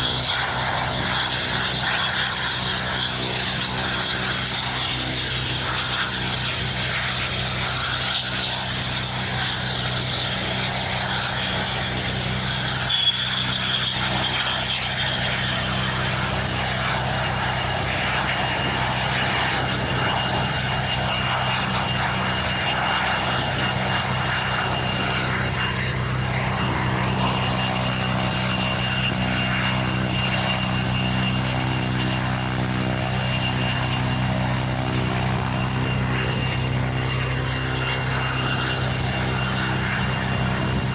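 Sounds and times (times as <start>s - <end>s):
propeller aircraft engine droning: 0.0s - 40.9s
thin high whine: 0.0s - 40.9s.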